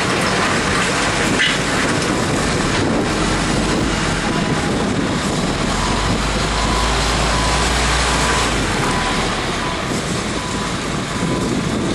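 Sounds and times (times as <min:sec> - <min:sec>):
backhoe diesel engine rumbling: 0:00.0 - 0:11.9.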